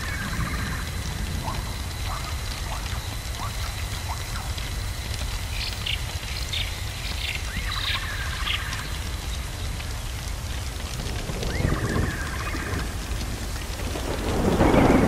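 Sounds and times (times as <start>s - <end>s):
crackling hiss: 0.0s - 15.0s.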